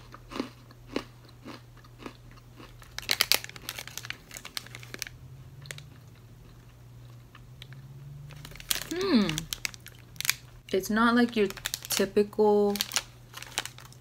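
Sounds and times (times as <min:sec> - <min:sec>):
biscuit crunching and chewing: 0:00.0 - 0:10.7, 0:12.8 - 0:14.0
steady low hum: 0:00.0 - 0:14.0.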